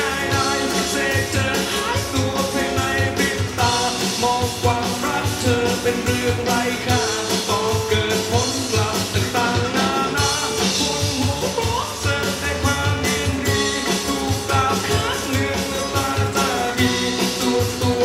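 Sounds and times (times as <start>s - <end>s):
song with singing and beat: 0.0s - 18.0s.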